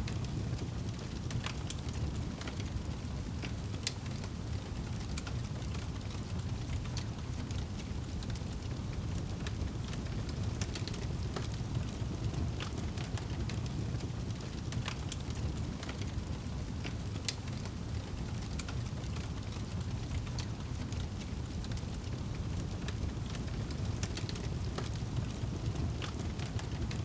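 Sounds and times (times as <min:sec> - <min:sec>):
low rumble of burning fire: 0:00.0 - 0:27.0
wood fire pops and snaps: 0:00.1 - 0:27.0.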